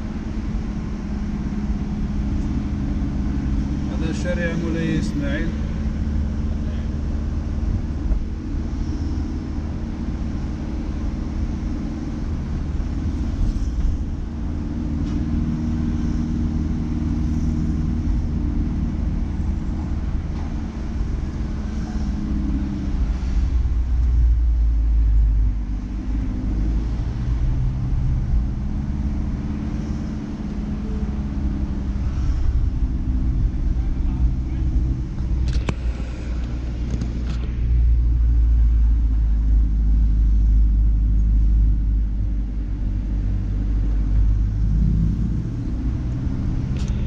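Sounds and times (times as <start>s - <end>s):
car engine: 0.0s - 47.0s
road rumble: 0.0s - 47.0s.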